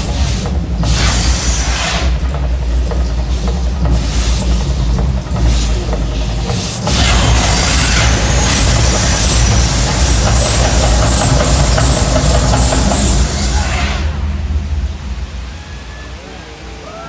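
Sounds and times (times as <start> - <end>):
rumbling roar with heavy bass: 0.0 - 17.0.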